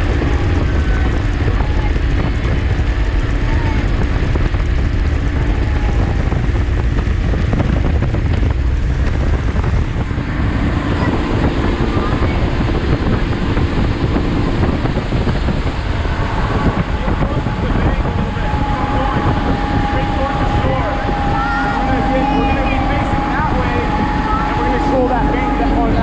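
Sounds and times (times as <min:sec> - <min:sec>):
outboard engine running: 0:00.0 - 0:26.0
water rushing past hull: 0:00.0 - 0:26.0
wind buffeting microphone: 0:00.0 - 0:26.0.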